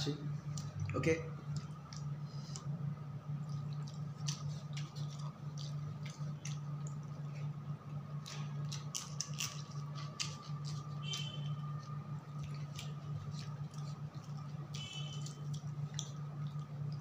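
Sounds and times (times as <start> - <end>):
steady low hum: 0.0 - 17.0
wet mouth smacks chewing: 1.5 - 2.8, 3.4 - 7.6, 8.2 - 17.0.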